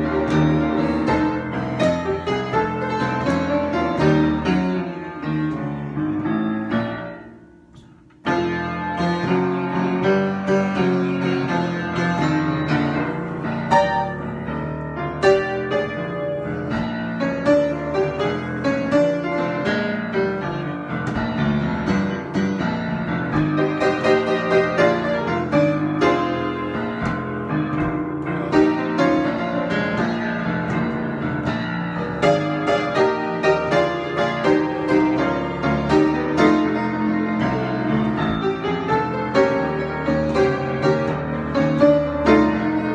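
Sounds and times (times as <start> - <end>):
solo piano improvisation: 0.0 - 42.9.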